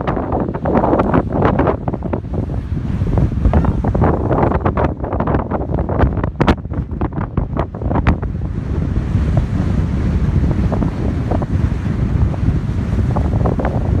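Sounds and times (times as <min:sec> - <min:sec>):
sea waves breaking on shore: 0:00.0 - 0:14.0
wind buffeting microphone: 0:00.0 - 0:14.0.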